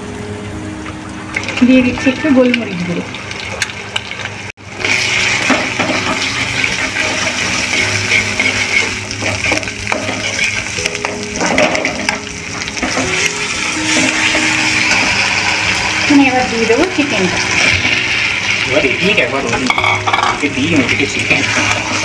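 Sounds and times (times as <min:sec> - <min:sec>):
egg sizzling in hot oil: 0:00.0 - 0:22.0.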